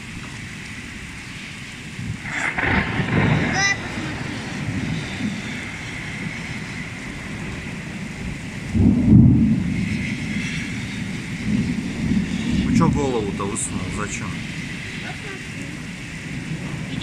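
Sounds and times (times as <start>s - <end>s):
rain: 0.0s - 17.0s
thunder rumble: 0.0s - 17.0s
wind: 0.0s - 17.0s.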